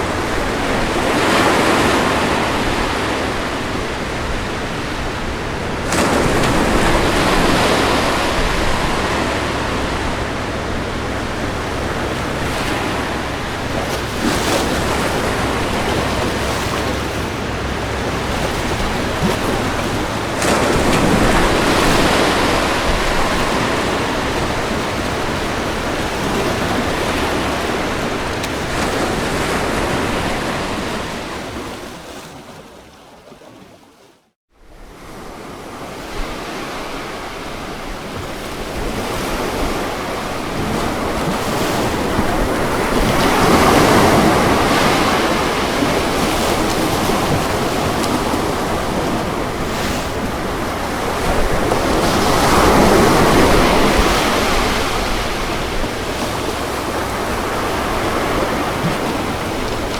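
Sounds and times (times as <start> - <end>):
ocean waves crashing on beach: 0.0 - 32.9, 34.6 - 59.9.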